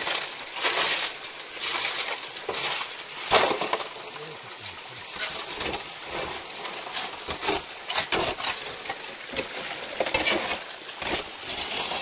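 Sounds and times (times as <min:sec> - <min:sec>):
gravel and stones clattering: 0:00.0 - 0:12.0
stream water running: 0:00.0 - 0:12.0.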